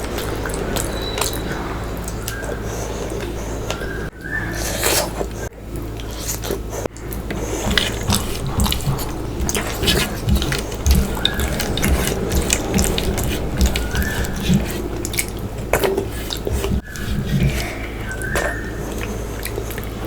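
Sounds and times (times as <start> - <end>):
wet chewing and mouth sounds: 0.0 - 20.0.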